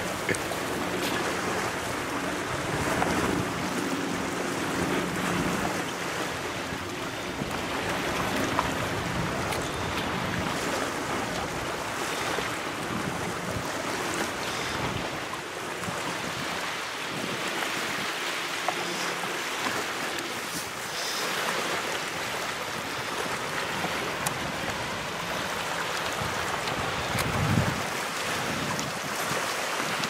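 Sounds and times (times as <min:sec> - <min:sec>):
wind rumble on microphone: 0:00.0 - 0:18.2, 0:22.3 - 0:30.0
small waves lapping on shore: 0:00.0 - 0:30.0.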